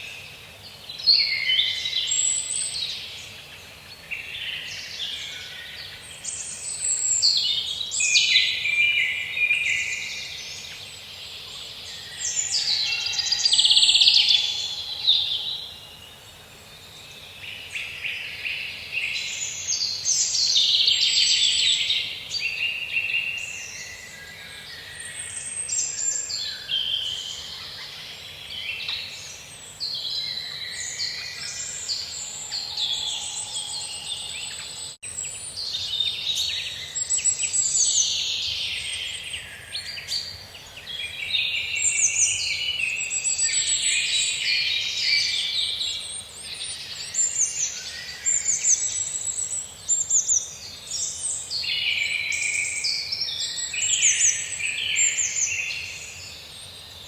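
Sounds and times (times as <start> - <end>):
faint forest ambience hiss: 0.0 - 57.0
songbirds chirping and trilling: 0.0 - 57.0.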